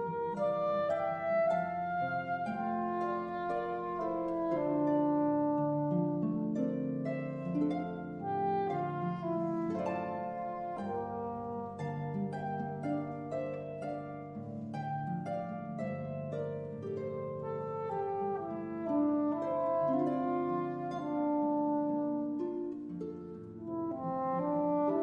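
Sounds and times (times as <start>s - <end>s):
plucked string duo music: 0.0s - 25.0s.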